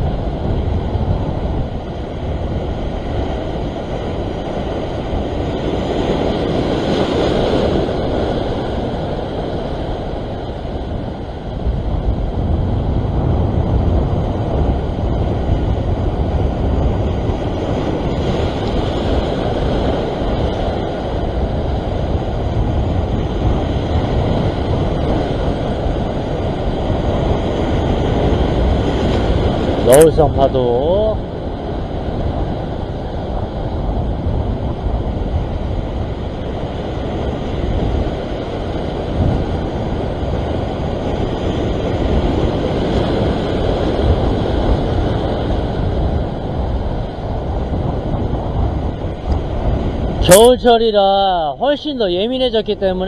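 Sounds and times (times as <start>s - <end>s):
ocean swell surging against rock: 0.0s - 53.0s
wind buffeting microphone: 0.0s - 53.0s.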